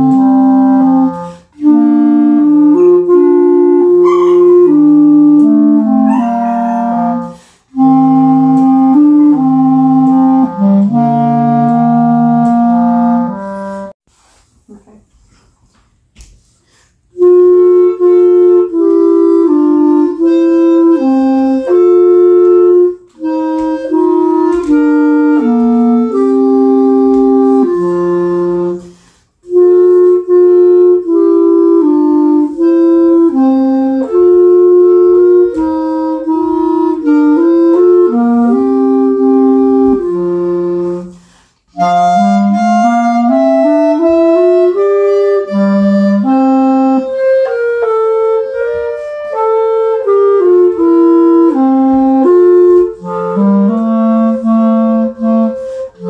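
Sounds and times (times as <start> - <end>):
clarinet duet: 0.0 - 14.0, 17.1 - 56.0.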